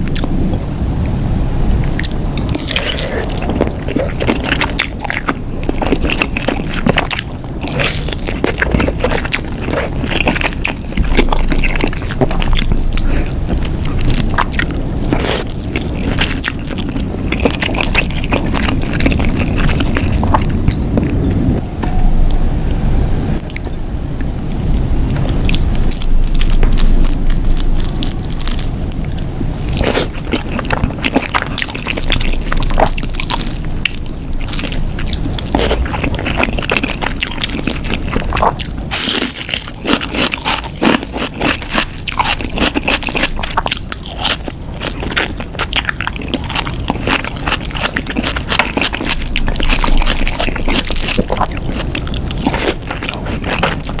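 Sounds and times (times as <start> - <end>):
chewing with wet mouth clicks: 0.0 - 0.4, 1.9 - 21.6, 25.2 - 54.0.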